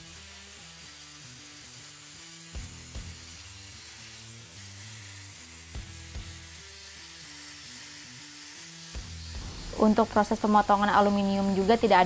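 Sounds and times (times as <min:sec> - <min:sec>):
plasma cutter arc hissing: 0:00.0 - 0:12.0.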